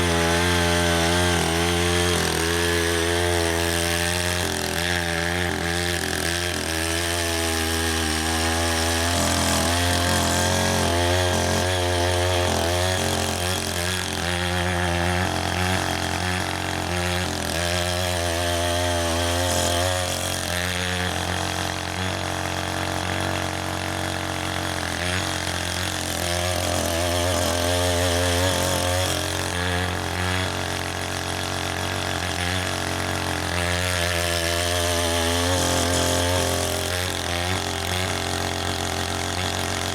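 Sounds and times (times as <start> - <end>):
rotary tiller engine running: 0.0 - 39.9.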